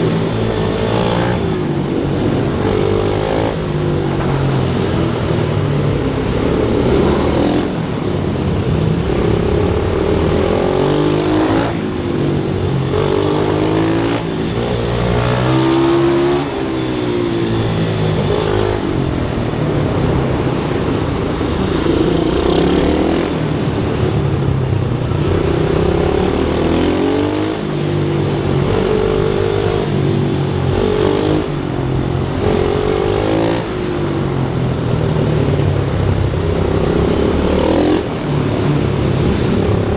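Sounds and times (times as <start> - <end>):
motorbike engines revving: 0.0 - 39.9.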